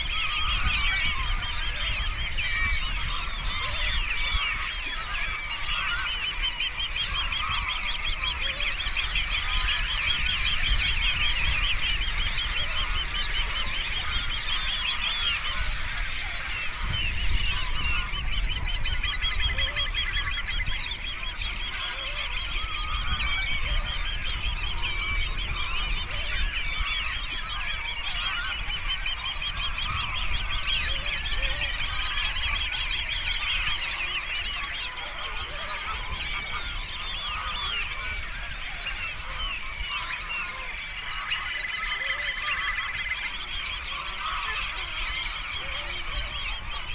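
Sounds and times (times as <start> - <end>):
flock of birds calling: 0.0 - 46.9.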